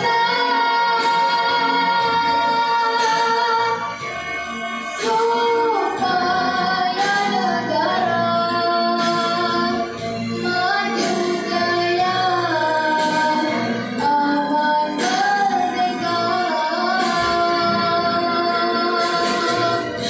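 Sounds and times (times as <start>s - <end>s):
boy singing: 0.0s - 3.8s, 4.8s - 9.8s, 10.4s - 19.9s
backing track music: 0.0s - 20.0s.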